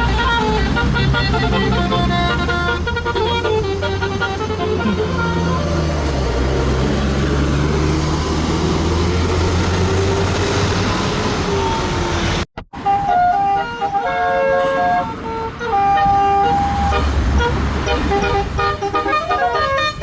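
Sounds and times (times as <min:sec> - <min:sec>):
multi-tone bus horn melody: 0:00.0 - 0:08.0, 0:11.2 - 0:20.0
bus engine running: 0:00.0 - 0:20.0
road noise: 0:00.0 - 0:20.0.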